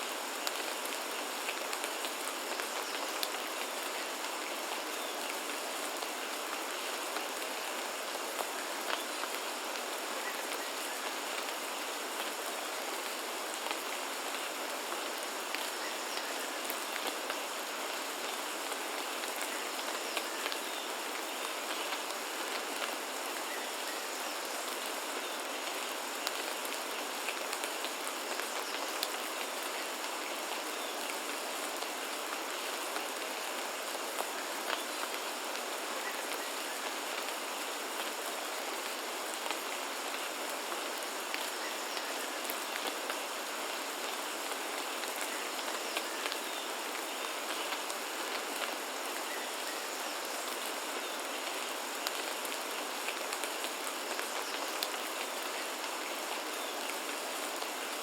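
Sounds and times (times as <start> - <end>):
steady rain falling: 0.0 - 58.0
raindrops ticking on surfaces: 0.1 - 58.0.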